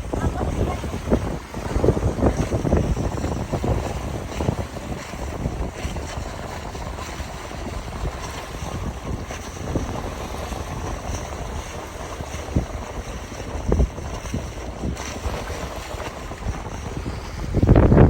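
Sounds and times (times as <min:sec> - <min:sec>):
rush of wind and water: 0:00.0 - 0:18.0
wind buffeting microphone: 0:00.0 - 0:18.0.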